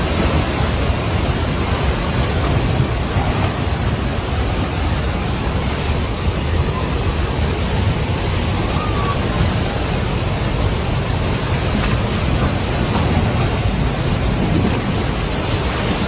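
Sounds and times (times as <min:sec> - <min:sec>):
roar of rushing water: 0:00.0 - 0:16.0.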